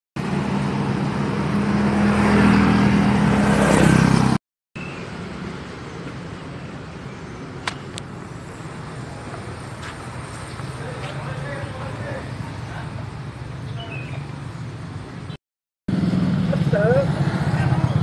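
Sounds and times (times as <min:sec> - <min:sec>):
vehicle engine humming: 0:00.2 - 0:18.0.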